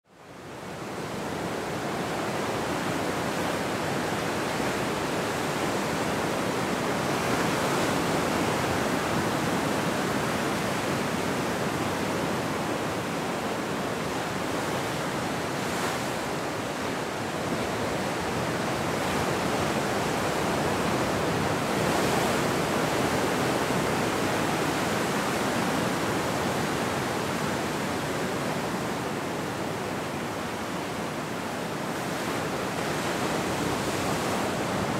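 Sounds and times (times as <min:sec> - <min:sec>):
ocean surf breaking: 0:01.3 - 0:34.9.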